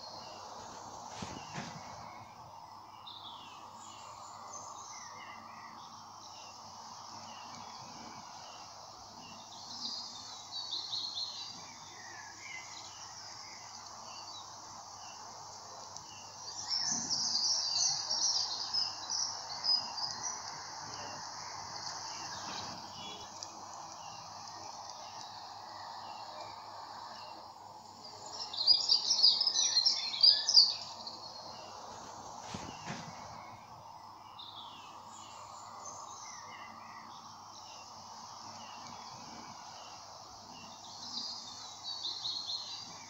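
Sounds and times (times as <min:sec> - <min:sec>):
outdoor background hiss: 0:00.0 - 0:43.0
songbirds chirping and twittering: 0:00.0 - 0:43.0.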